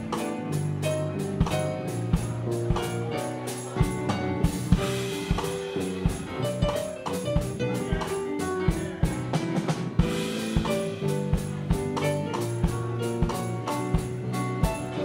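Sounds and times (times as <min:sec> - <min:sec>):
drum kit kick and snare: 0:00.0 - 0:15.0
keyboard notes and chords: 0:00.0 - 0:15.0.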